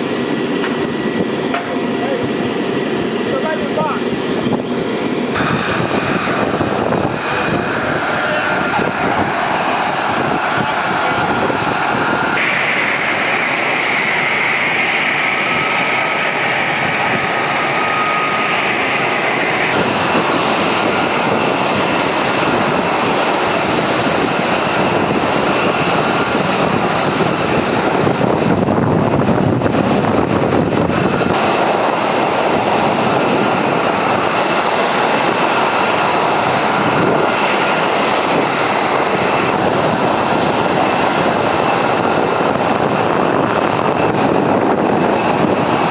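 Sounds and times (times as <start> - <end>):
jet engines whining and roaring: 0.0 - 45.9.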